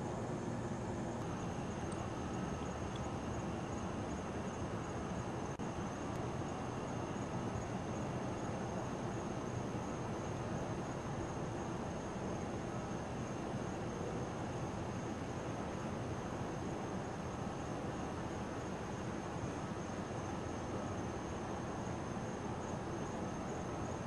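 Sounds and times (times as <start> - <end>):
faint high whine: 0.0 - 24.0
low rumble and hiss: 0.0 - 24.0.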